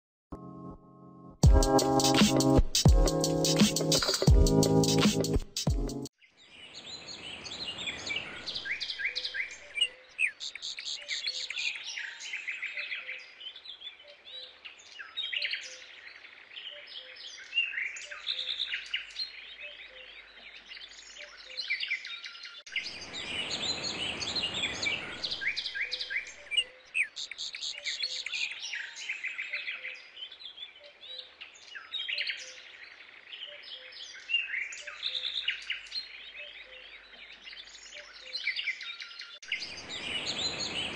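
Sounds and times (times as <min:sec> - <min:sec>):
birds chirping: 0:05.9 - 0:40.9.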